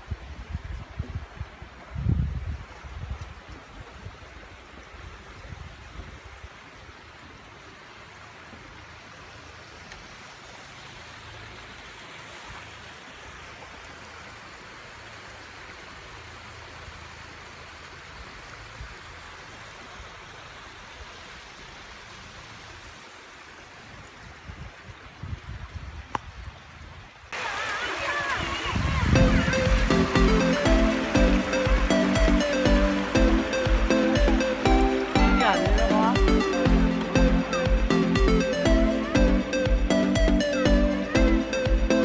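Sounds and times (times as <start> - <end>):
stream running over rocks: 0.0 - 42.0.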